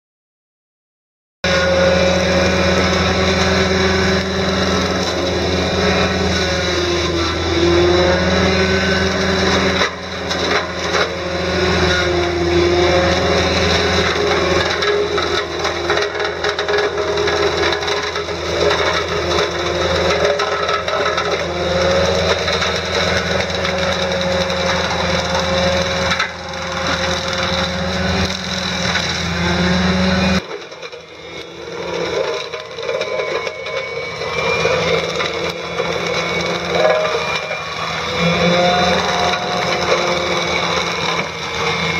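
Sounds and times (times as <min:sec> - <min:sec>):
excavator engine and hydraulics whine: 0:01.4 - 0:41.9
wood splintering and cracking: 0:01.5 - 0:41.9.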